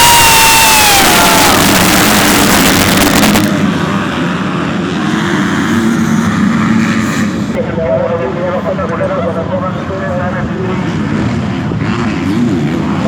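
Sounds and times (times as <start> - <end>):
engines droning: 0.0 - 13.0
motocross bike passing: 0.0 - 13.0.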